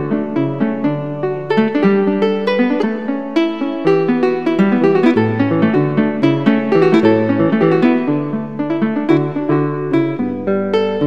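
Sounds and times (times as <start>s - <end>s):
instrumental music of plucked notes: 0.0s - 11.0s.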